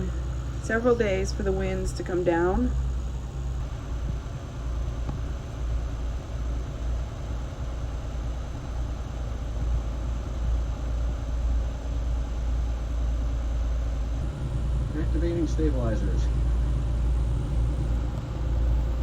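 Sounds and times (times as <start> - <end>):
diesel engines rumbling: 0.0 - 19.0.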